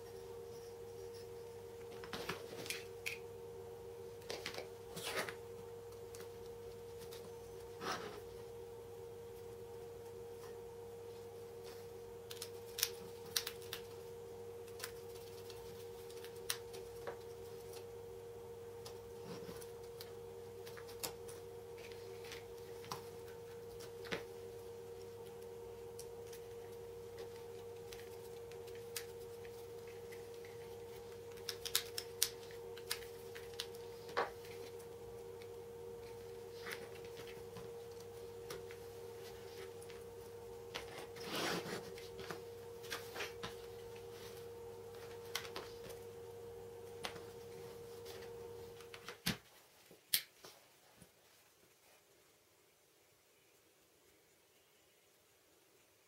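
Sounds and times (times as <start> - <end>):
faint hum: 0.0 - 56.0.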